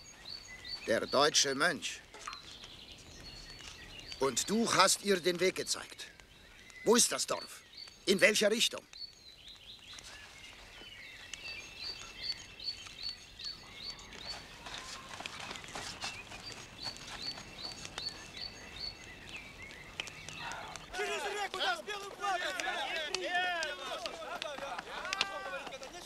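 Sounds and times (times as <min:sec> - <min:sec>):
birds singing and chirping: 0:00.0 - 0:26.0.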